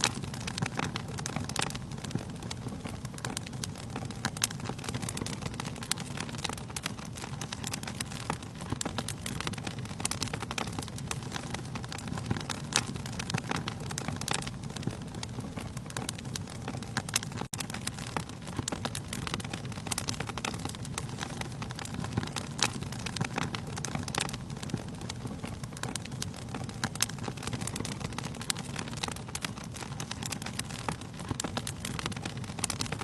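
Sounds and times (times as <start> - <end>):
low rumble of flames: 0.0 - 33.0
wood fire crackling and popping: 0.0 - 33.0.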